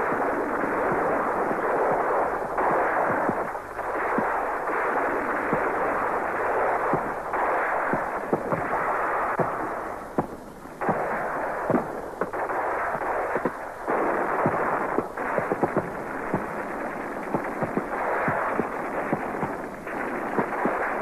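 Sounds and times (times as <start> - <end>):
muffled din of gunfire: 0.0 - 21.0
rifle shots: 0.0 - 21.0.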